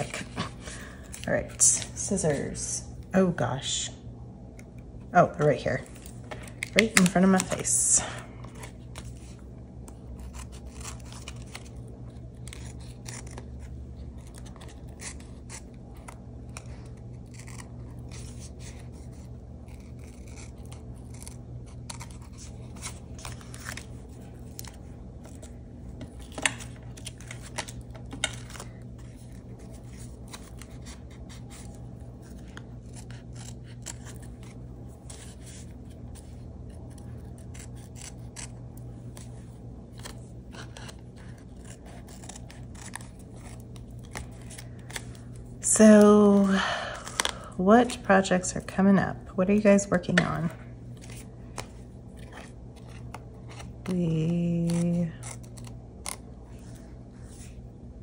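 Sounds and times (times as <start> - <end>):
steady low hum: 0.0 - 58.0
scissors snipping paper: 4.6 - 7.8, 8.4 - 48.3, 50.0 - 56.3.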